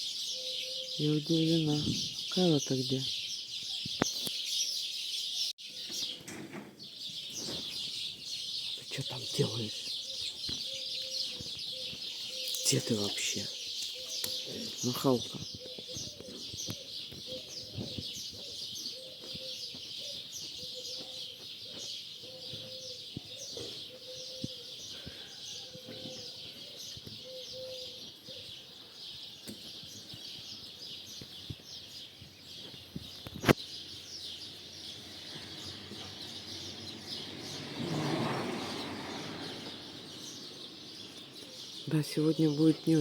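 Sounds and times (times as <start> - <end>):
starlings chattering and whistling: 0.0 - 43.0.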